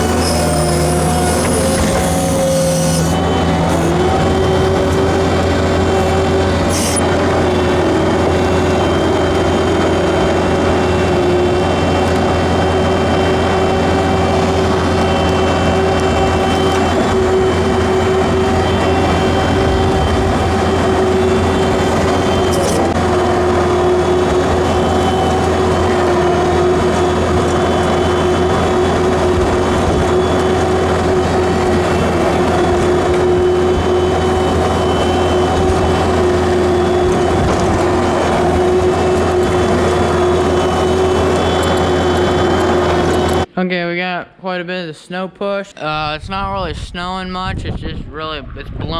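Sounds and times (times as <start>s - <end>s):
farm machine engine running: 0.0s - 43.5s
steady whine: 0.0s - 43.9s.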